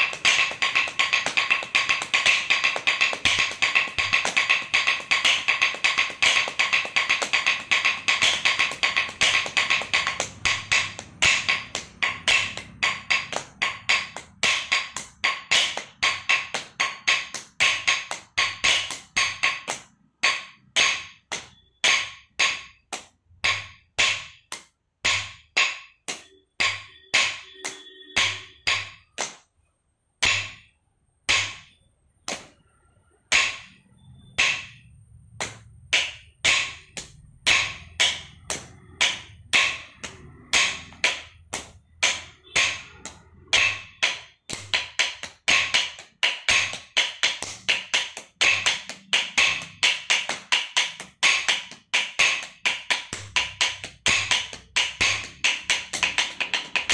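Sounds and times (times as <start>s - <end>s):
sticks beating wooden blocks: 0.0s - 29.5s, 30.2s - 56.9s.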